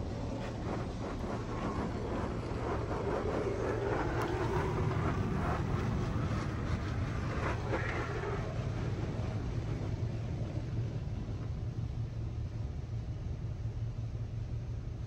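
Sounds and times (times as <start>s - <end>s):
car wash machine rumble: 0.0s - 15.0s.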